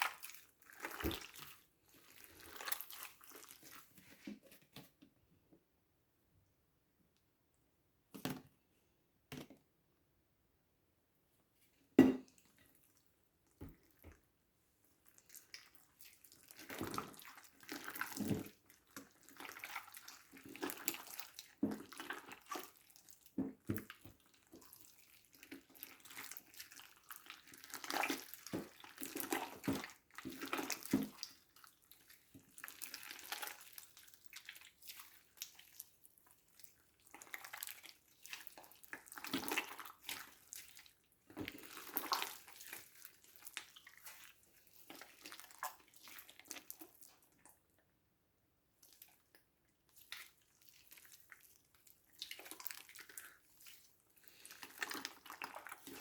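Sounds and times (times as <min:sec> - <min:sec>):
slime squelching by hand: 0:00.0 - 0:05.0, 0:12.2 - 0:47.8, 0:48.7 - 0:56.0.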